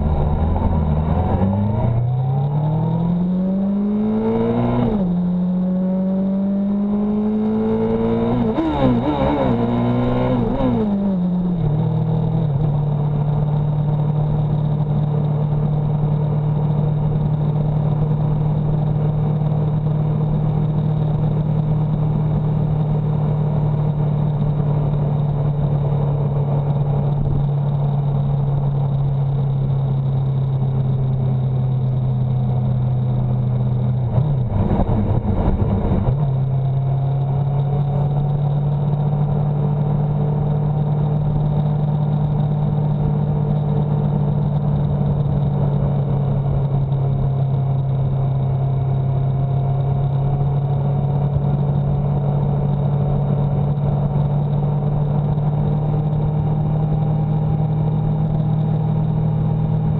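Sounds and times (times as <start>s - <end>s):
motorcycle engine cruising: 0.0s - 59.9s
road and wind noise: 0.0s - 59.9s.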